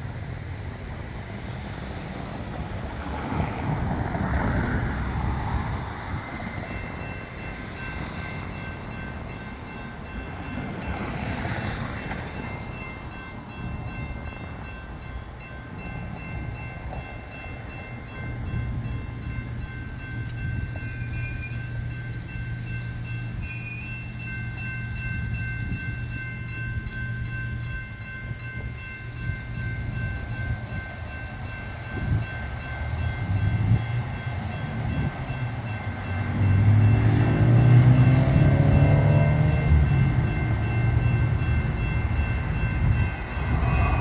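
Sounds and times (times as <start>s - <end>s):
railroad crossing bell ringing: 0.0s - 44.0s.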